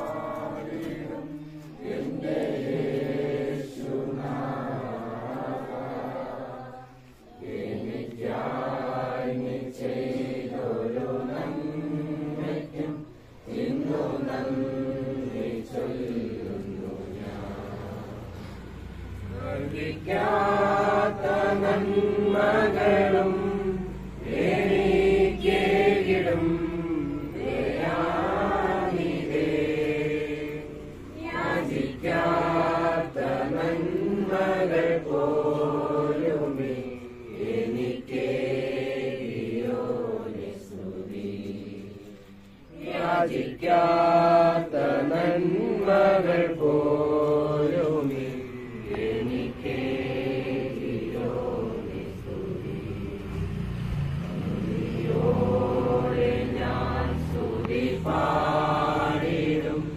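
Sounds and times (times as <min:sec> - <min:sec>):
group singing unaccompanied: 0:00.0 - 0:59.9.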